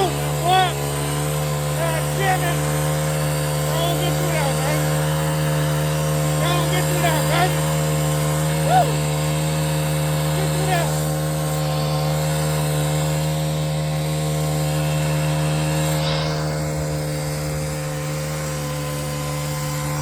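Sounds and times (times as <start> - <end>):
vehicle engine at high revs: 0.0 - 20.0.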